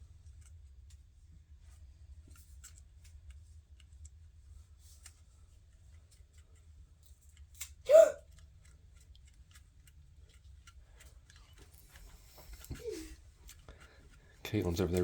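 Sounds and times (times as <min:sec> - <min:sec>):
grip tape clicks and rustles: 0:00.0 - 0:15.0.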